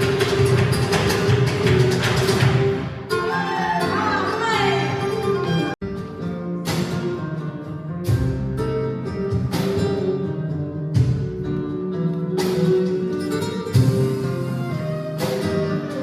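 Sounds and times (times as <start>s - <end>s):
plucked guitar: 0.0s - 16.0s.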